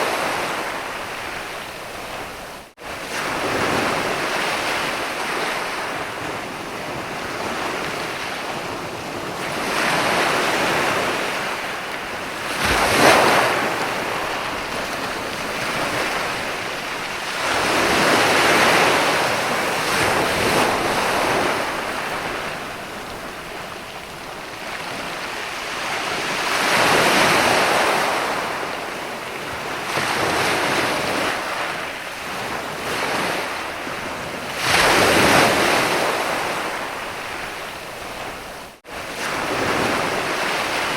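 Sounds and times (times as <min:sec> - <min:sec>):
ocean waves breaking on a beach: 0:00.0 - 0:40.9.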